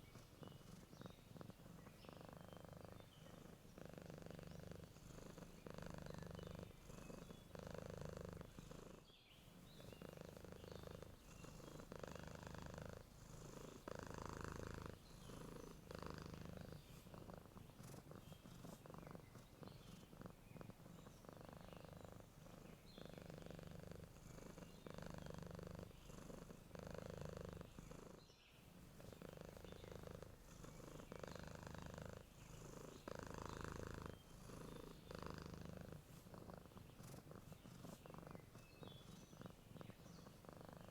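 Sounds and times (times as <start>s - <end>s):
cat purring softly: 0.0s - 40.9s.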